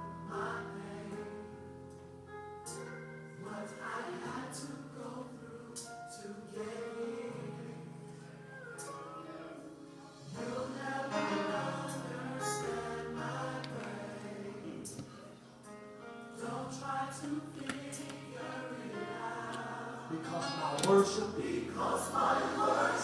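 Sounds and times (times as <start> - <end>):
choir singing over a band: 0.2 - 1.6, 2.8 - 15.2, 16.4 - 23.0.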